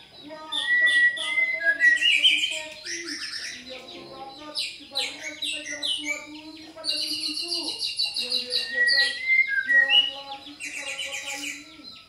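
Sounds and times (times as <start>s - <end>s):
bird singing varied song: 0.0s - 12.0s.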